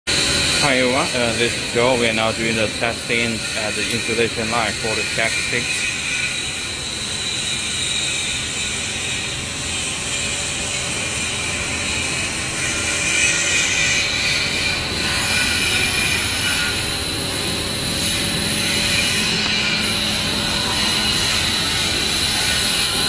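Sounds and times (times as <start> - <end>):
machine drone with whining tones: 0.1 - 23.0.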